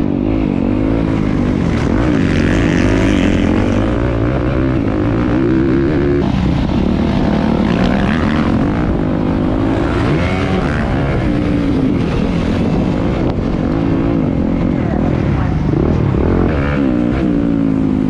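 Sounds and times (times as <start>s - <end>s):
motocross engines revving: 0.0s - 18.0s.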